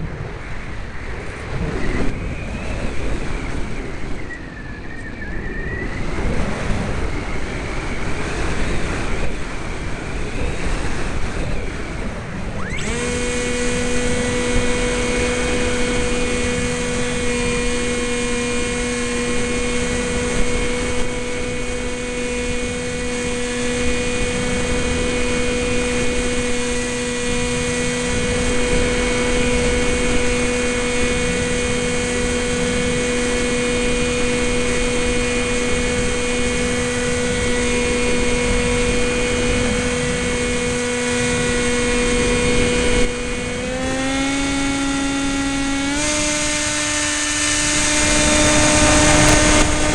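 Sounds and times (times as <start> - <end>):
rc plane electric motor whining: 0.0 - 49.9
wind rush: 0.0 - 49.9.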